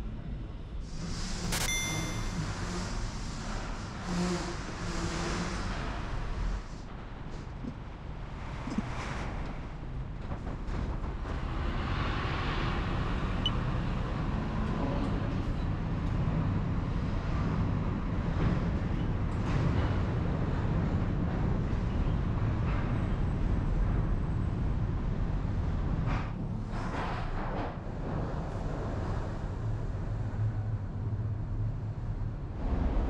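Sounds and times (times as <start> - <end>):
heavy engines rumbling: 0.0 - 33.0.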